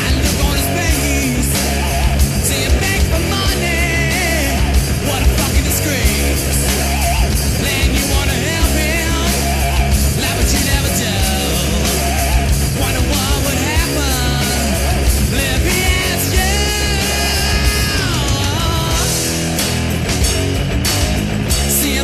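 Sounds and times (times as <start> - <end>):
hard rock song with vocals: 0.0 - 22.0.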